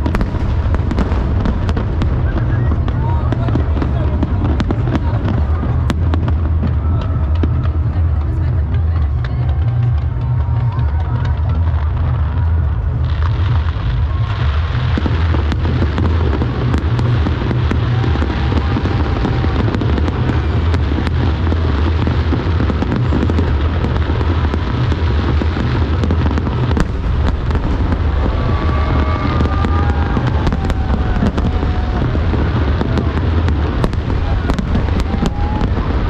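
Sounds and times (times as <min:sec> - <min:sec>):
firework shells booming: 0:00.0 - 0:07.9, 0:14.8 - 0:36.0
firework crackles: 0:00.0 - 0:36.0.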